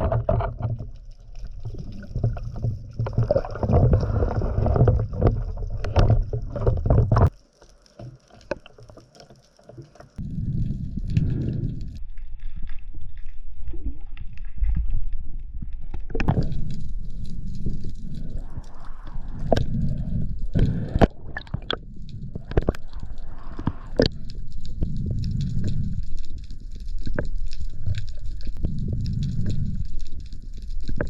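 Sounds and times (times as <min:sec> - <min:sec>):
water rushing and churning: 0:00.0 - 0:12.0, 0:16.0 - 0:31.0.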